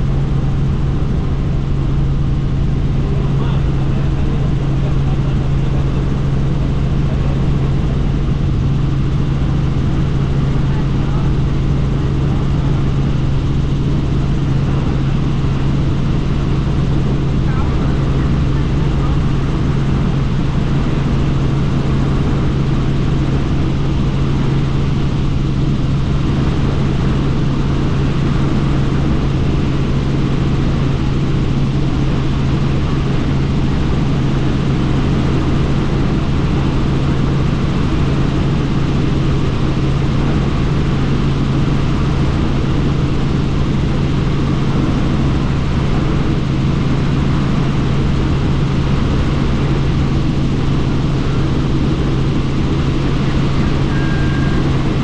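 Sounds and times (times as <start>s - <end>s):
helicopter rotor and turbine: 0.0s - 55.0s.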